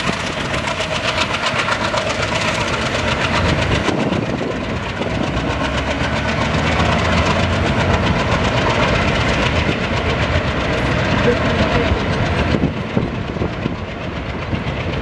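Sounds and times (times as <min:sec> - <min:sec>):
passenger train passing at speed: 0:00.0 - 0:15.0.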